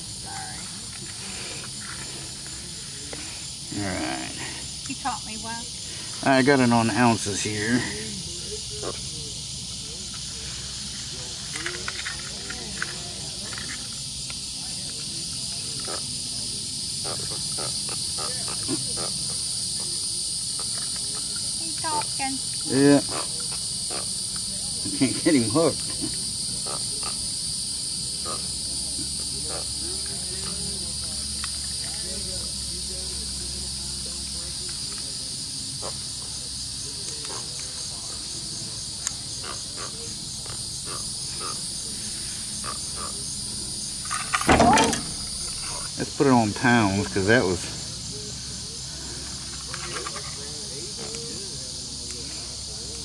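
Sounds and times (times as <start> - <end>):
insect chorus: 0.0 - 53.0.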